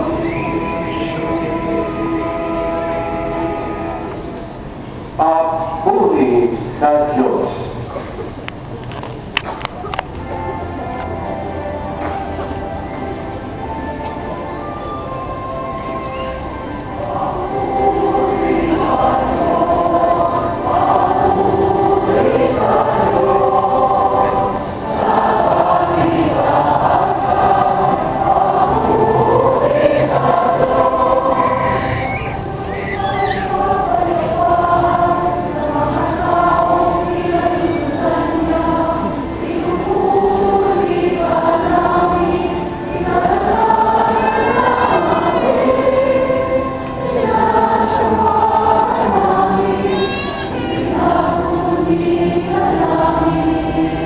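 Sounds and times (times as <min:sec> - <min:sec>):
choir singing over loudspeakers: 0:00.0 - 0:08.4, 0:10.2 - 0:54.0.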